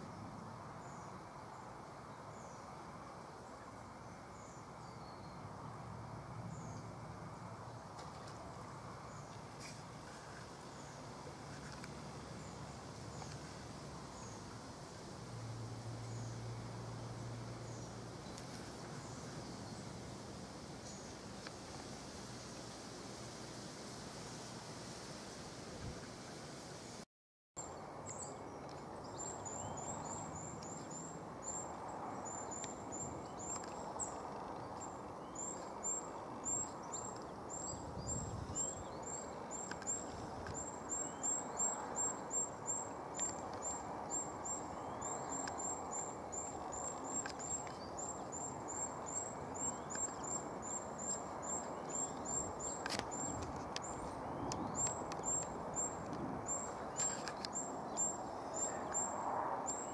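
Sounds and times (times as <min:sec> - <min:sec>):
river water running: 0:06.8 - 0:27.0, 0:27.6 - 0:59.9.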